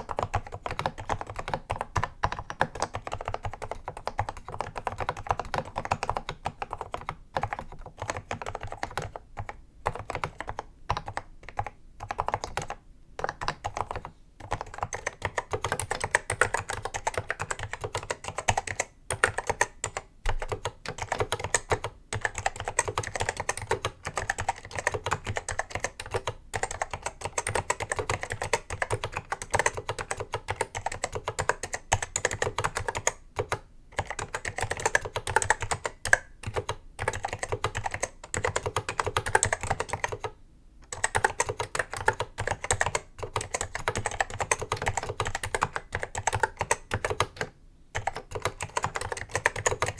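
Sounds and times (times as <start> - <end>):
mechanical keyboard typing: 0.0 - 49.9.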